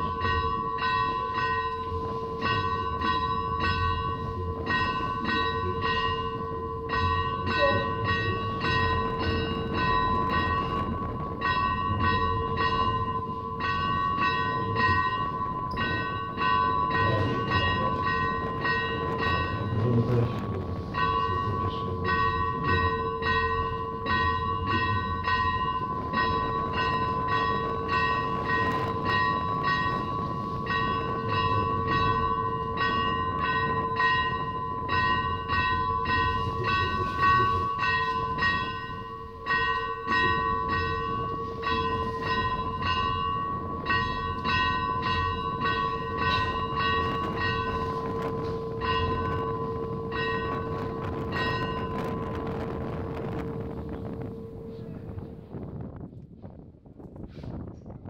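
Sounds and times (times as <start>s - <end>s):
church bells ringing rapid peal: 0.0s - 55.4s.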